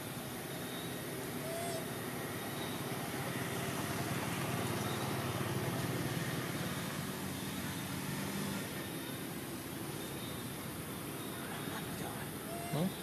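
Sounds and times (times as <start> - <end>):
low engine hum: 0.0 - 13.0
outdoor background noise: 0.0 - 13.0.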